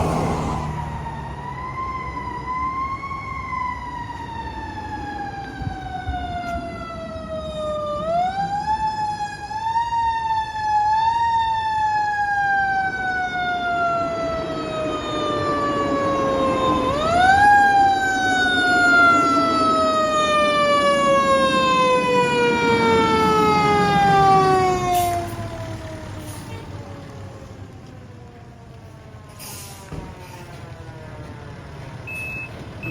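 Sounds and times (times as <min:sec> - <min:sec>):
heavy truck engine rumbling: 0:00.0 - 0:07.8, 0:13.1 - 0:32.9
fire truck siren wailing: 0:00.0 - 0:32.9.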